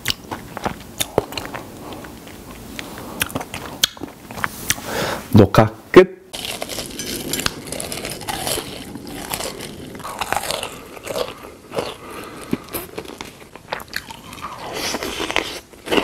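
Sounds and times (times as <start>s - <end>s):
biting and chewing: 0.0s - 4.8s, 6.3s - 16.0s.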